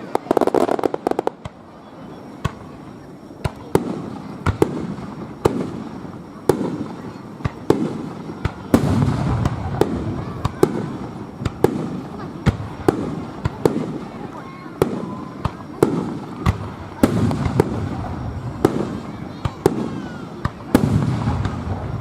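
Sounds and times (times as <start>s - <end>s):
firework bangs: 0.0s - 22.0s.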